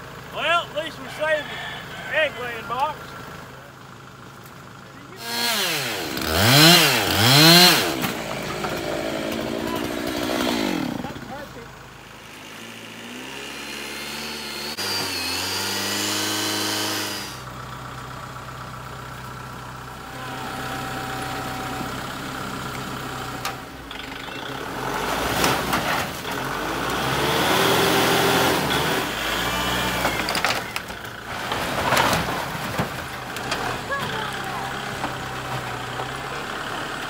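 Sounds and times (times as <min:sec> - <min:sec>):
tractor diesel engine revving: 0:00.0 - 0:37.0.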